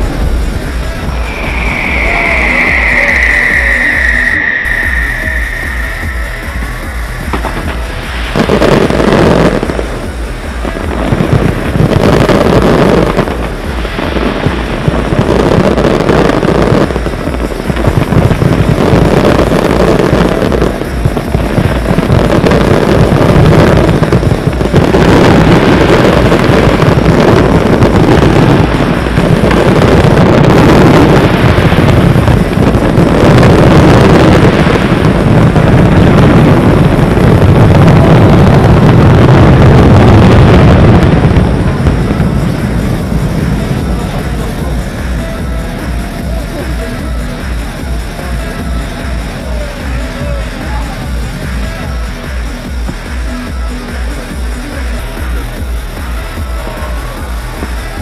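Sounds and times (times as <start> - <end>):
fireworks rumbling and crackling: 0.0 - 58.0.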